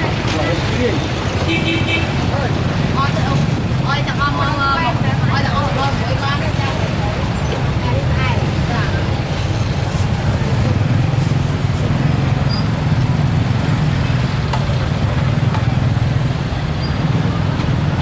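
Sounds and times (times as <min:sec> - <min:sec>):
faint voices: 0:00.0 - 0:18.0
motorbike and traffic rumble: 0:00.0 - 0:18.0.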